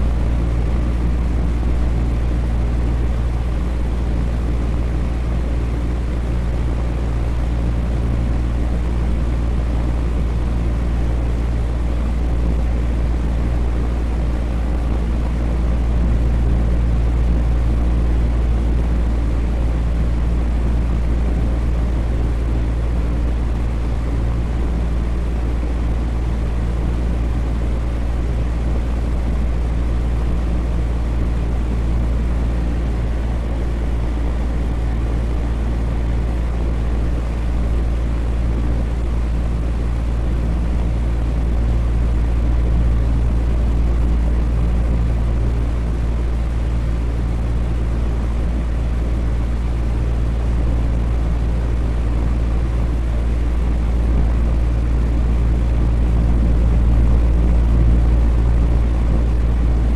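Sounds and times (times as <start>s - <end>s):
electric fan humming: 0.0s - 59.9s.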